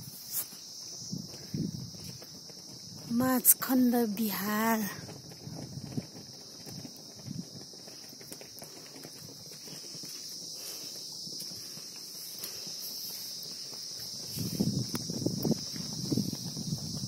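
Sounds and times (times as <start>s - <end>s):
footsteps on concrete: 0.0s - 3.7s, 4.9s - 17.0s
high insect drone: 0.0s - 17.0s.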